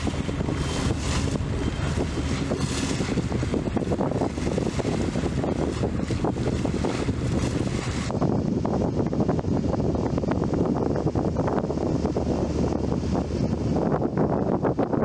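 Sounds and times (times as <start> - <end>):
ferry engines humming: 0.0 - 15.0
wind buffeting microphone: 0.0 - 15.0.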